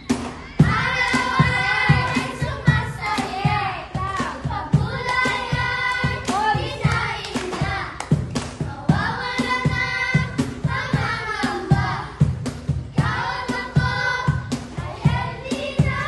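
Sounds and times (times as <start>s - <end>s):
music with singing over a beat: 0.0s - 16.0s.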